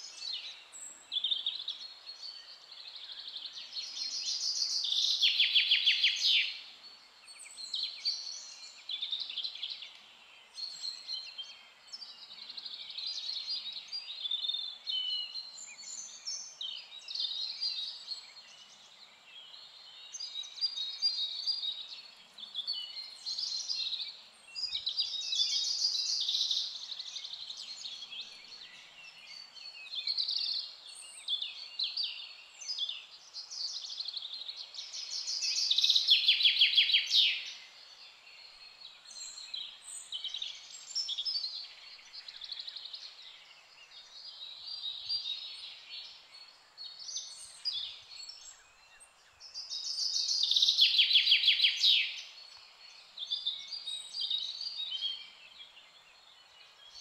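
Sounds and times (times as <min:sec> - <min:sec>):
faint outdoor hiss: 0:00.0 - 0:57.0
songbirds chirping: 0:00.0 - 0:57.0.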